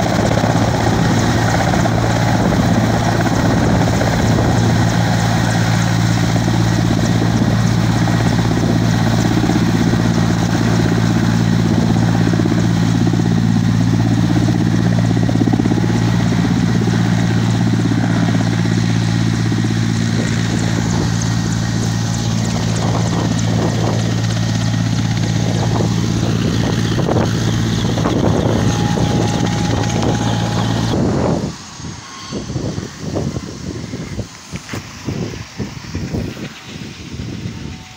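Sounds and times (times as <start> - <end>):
helicopter rotors and engines: 0.0 - 37.9.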